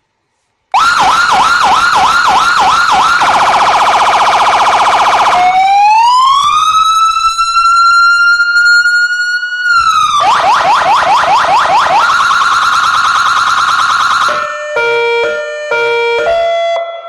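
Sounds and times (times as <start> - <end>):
electronic siren changing tones: 0.8 - 17.0.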